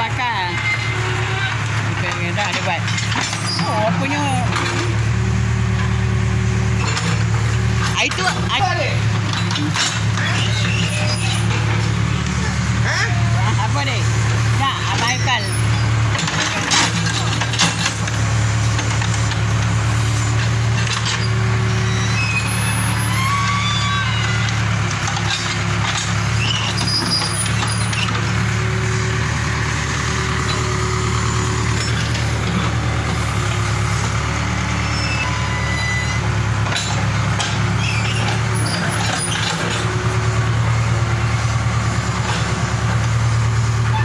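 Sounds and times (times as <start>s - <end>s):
diesel engine droning: 0.0s - 44.0s.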